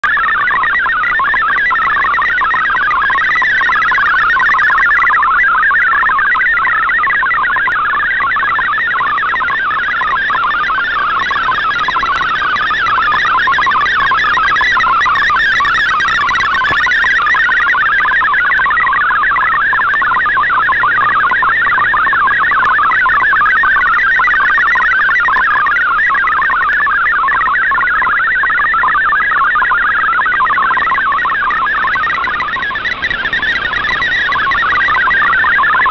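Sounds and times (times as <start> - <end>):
warbling data signal tones: 0.0 - 35.9.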